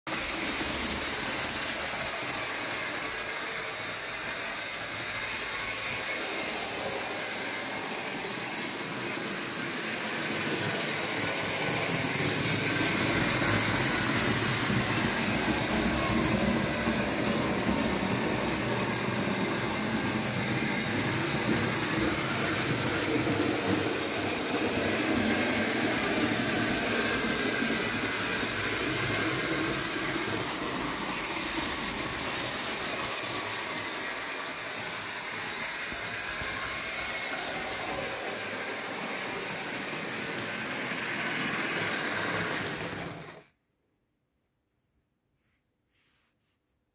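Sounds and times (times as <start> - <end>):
model train motor whirring: 0.2 - 43.5.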